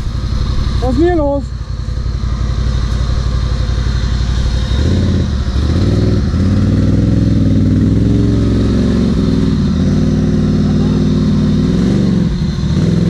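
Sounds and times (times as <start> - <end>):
quad engine idling: 0.0 - 13.0
quad engine revving under load: 0.0 - 13.0.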